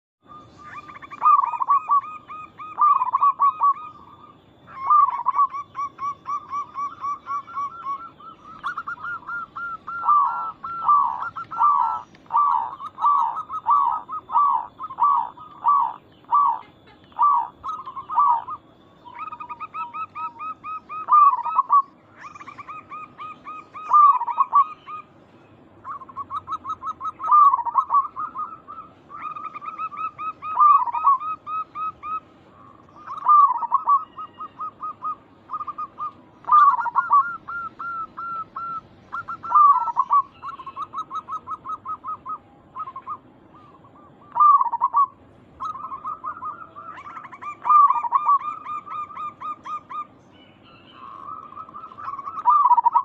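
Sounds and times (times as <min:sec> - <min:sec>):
doves cooing: 0:00.2 - 0:53.0.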